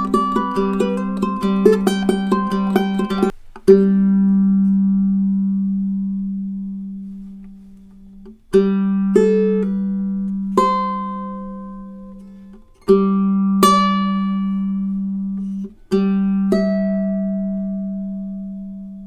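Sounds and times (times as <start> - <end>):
fingerpicked ukulele: 0.0 - 19.0.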